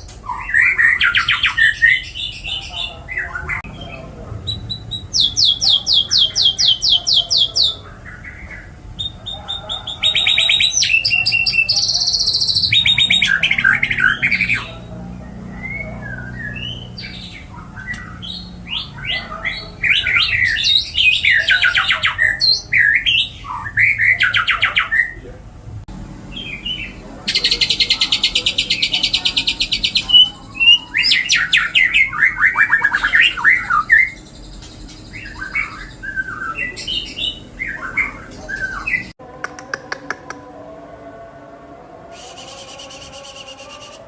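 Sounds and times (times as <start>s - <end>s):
songbird singing trills and whistles: 0.0s - 25.2s, 26.3s - 39.1s.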